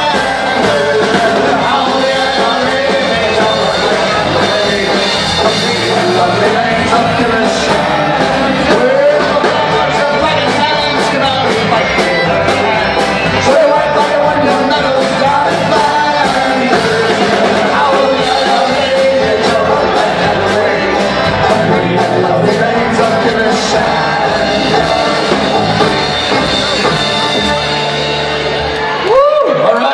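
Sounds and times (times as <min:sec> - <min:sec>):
folk-rock band playing: 0:00.0 - 0:29.9.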